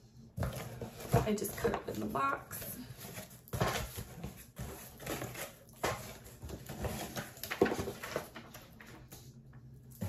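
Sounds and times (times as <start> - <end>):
cardboard box and packing rustling: 0.3 - 10.0.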